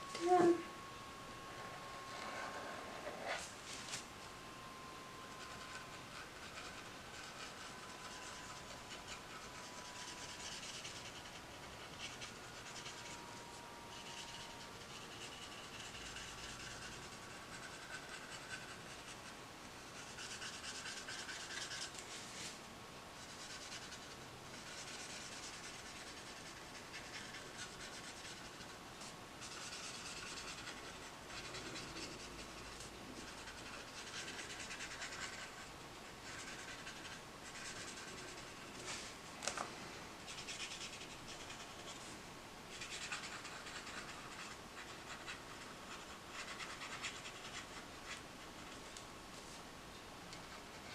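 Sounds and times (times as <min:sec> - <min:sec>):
brush marker scratching on paper: 0:05.2 - 0:22.6, 0:23.2 - 0:39.1, 0:40.3 - 0:42.1, 0:42.7 - 0:48.9, 0:50.4 - 0:50.9.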